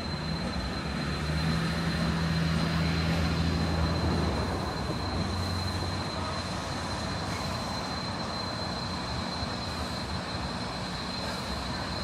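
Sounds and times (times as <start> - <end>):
thin high whine: 0.0 - 12.0
train engine hum: 0.0 - 12.0
train rumble: 0.0 - 12.0.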